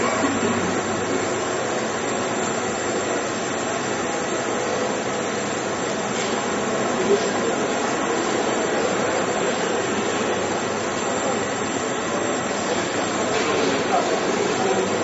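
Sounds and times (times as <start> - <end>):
machine running steadily: 0.0 - 15.0.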